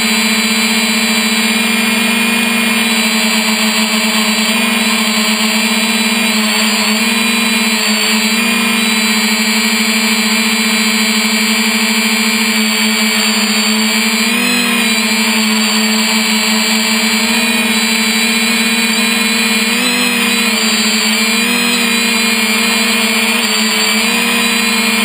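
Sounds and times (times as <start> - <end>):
drone motors humming: 0.0 - 25.0.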